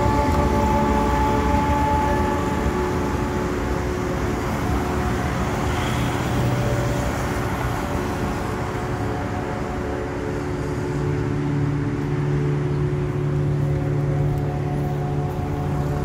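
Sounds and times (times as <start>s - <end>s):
cars passing on road: 0.0s - 16.0s.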